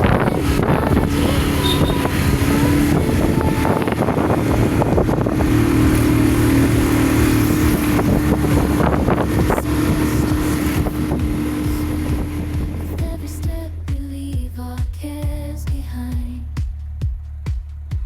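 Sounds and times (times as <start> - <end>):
vehicle engine running: 0.0 - 18.0
wind noise on microphone: 0.0 - 18.0.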